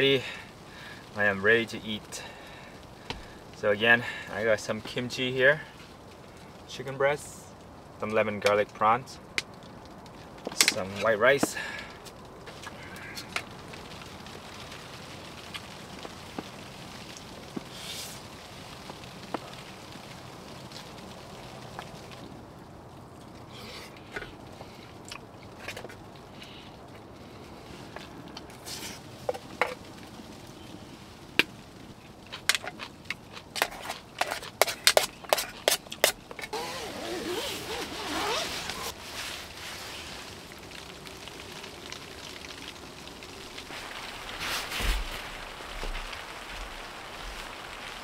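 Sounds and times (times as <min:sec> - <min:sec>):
steady background hiss: 0:00.0 - 0:48.0.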